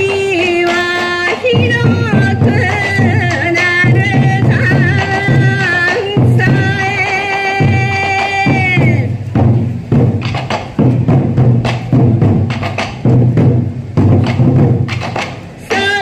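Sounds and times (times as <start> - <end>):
taiko drums steady beat: 0.0 - 16.0.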